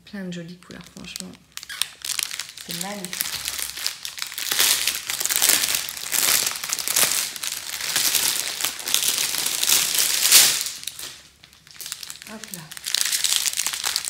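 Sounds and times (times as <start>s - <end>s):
plastic packaging crinkling: 0.6s - 14.0s.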